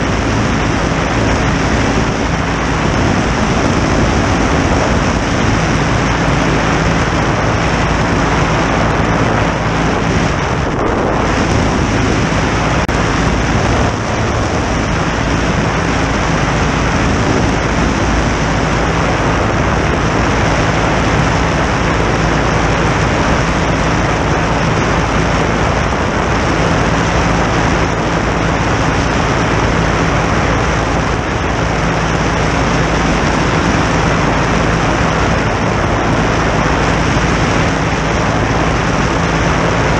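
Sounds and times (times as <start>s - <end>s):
aircraft engine and propeller: 0.0s - 39.9s
wind on microphone: 0.0s - 39.9s.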